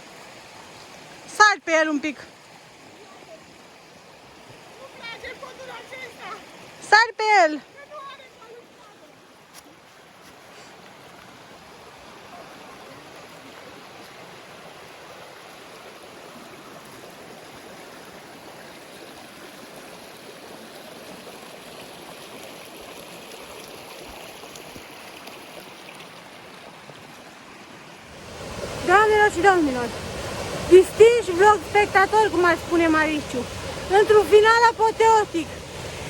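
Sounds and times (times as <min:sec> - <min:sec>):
mountain stream rushing: 0:00.0 - 0:36.0.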